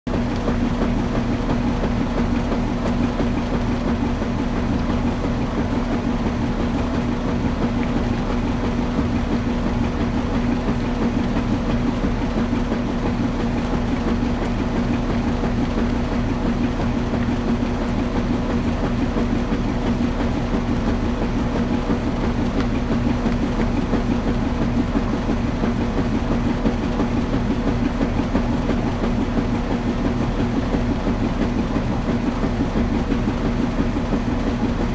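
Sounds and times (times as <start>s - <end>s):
washing machine churning rumble: 0.1s - 34.9s
washing machine motor hum: 0.1s - 34.9s.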